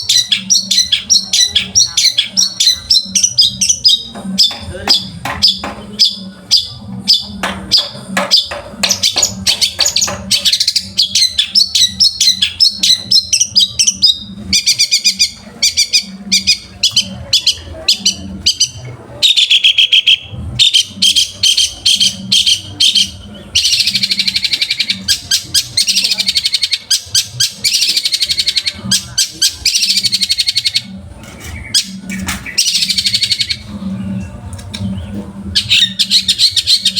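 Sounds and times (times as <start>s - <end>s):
bird singing chips and trills: 0.0s - 33.7s.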